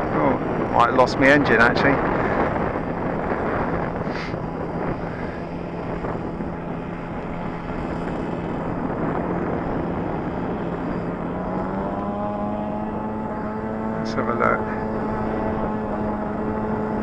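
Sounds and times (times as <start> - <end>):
model aircraft engine droning: 0.0 - 17.0
wind noise on microphone: 0.0 - 17.0.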